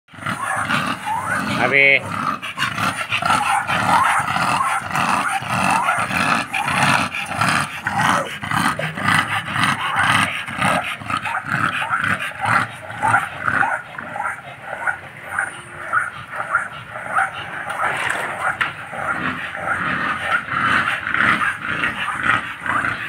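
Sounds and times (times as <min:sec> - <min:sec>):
dogs growling in play: 0:00.1 - 0:23.0.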